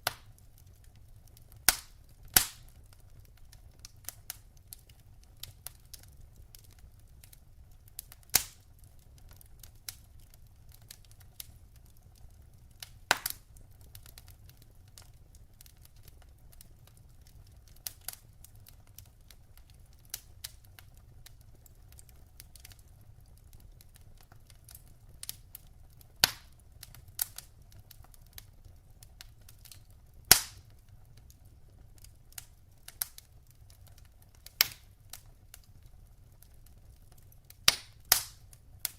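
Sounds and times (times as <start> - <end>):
fire crackling: 0.0 - 38.9
loud pops from fire: 0.0 - 38.9
low rumble of fire: 0.0 - 38.9.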